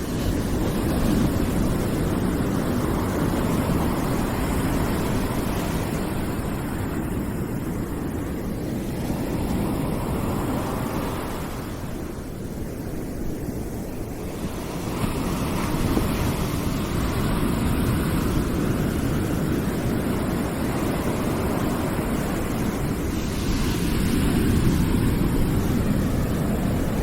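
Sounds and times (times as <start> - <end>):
steady rushing white noise: 0.0 - 27.0.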